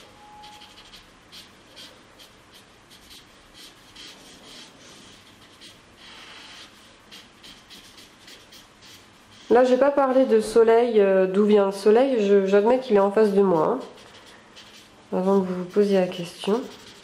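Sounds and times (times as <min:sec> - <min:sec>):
blending stump rubbing on paper: 0:00.4 - 0:10.3, 0:13.2 - 0:17.0.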